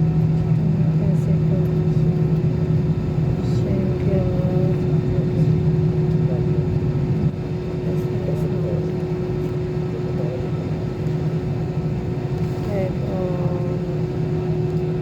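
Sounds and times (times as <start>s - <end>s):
airliner cabin engine hum: 0.0s - 15.0s.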